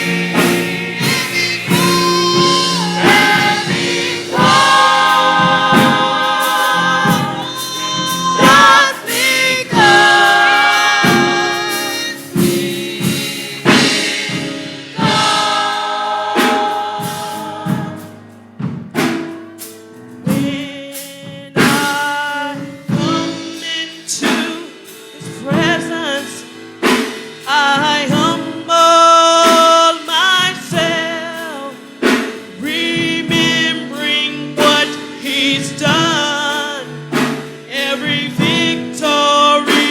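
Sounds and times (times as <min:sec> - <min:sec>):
gospel choir singing: 0:00.0 - 0:18.5, 0:20.2 - 0:39.9
drums: 0:00.0 - 0:39.9
instrumental accompaniment: 0:00.0 - 0:39.9.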